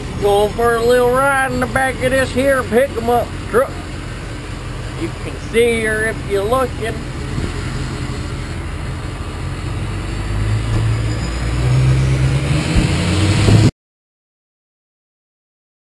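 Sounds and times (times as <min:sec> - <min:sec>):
truck engine and road rumble: 0:00.0 - 0:13.7.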